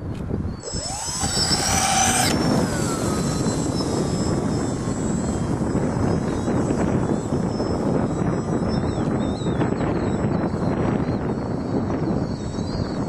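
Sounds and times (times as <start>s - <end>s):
wind buffeting microphone: 0.0s - 13.0s
model plane motor whining: 0.5s - 12.9s.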